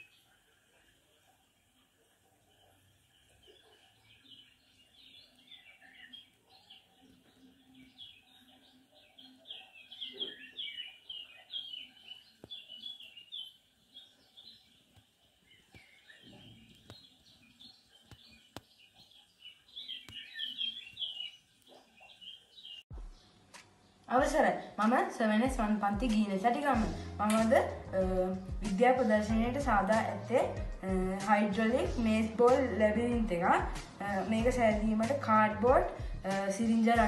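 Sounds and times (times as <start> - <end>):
small birds twittering: 0.0 - 37.0.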